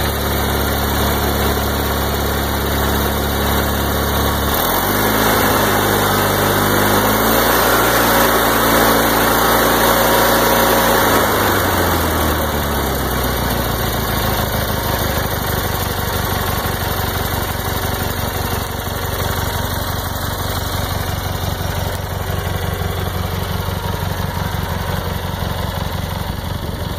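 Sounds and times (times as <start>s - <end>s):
garden tractor engine running: 0.0s - 26.9s.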